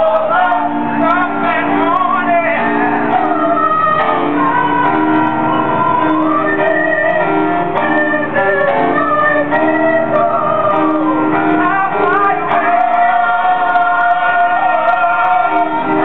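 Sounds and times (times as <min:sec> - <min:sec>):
held instrumental chords: 0:00.0 - 0:16.0
person singing with vibrato: 0:00.0 - 0:16.0.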